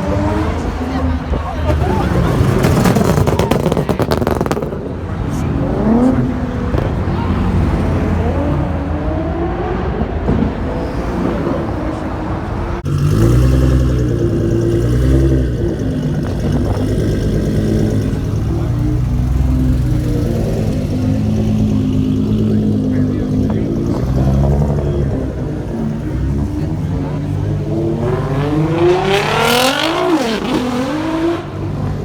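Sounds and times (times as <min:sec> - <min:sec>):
people talking: 0:00.0 - 0:13.9, 0:14.7 - 0:32.0
car engines revving and idling: 0:00.0 - 0:32.0.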